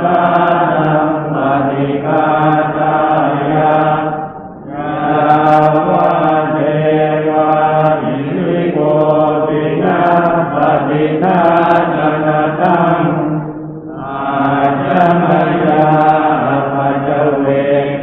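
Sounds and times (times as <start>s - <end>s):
monotone chanting: 0.0s - 18.0s.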